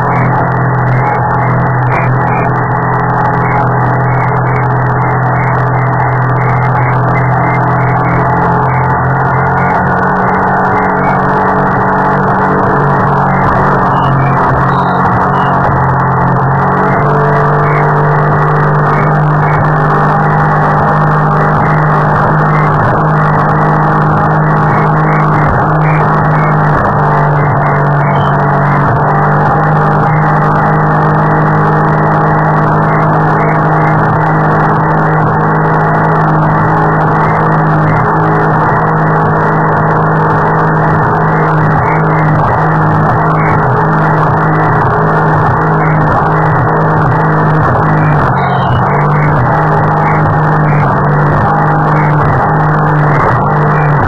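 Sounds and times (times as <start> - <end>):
powerboat engine running: 0.0 - 54.0.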